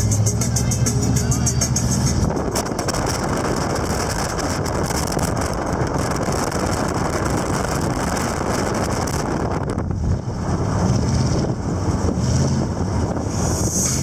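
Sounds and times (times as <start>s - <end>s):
car engine running: 0.0s - 14.0s
road noise: 0.0s - 14.0s.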